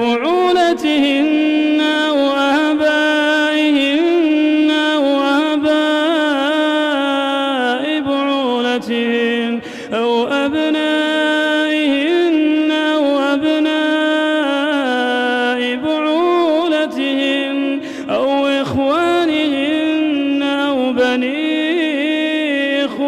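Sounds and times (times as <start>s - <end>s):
man chanting: 0.0s - 23.0s.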